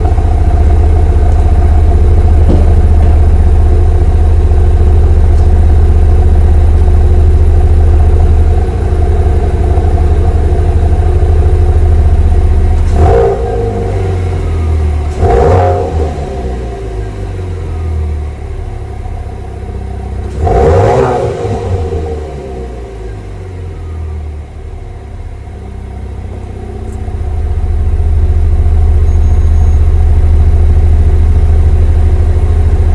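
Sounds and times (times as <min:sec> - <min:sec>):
car exhaust idling: 0:00.0 - 0:32.9
engine throttle blips: 0:00.0 - 0:32.9.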